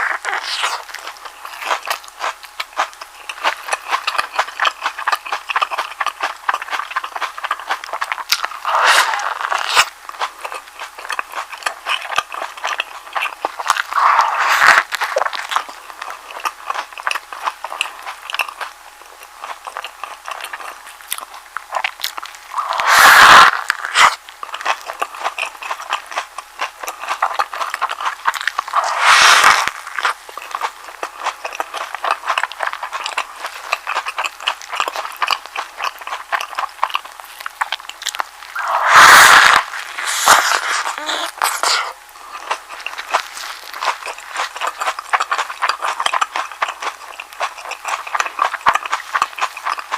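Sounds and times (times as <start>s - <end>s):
wet chewing mouth clicks: 0.0s - 49.9s.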